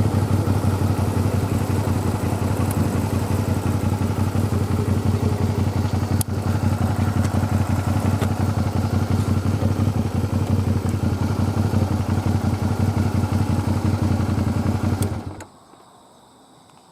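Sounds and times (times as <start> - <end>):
motorcycle engine idling: 0.0 - 15.4
faint crickets: 0.1 - 16.9.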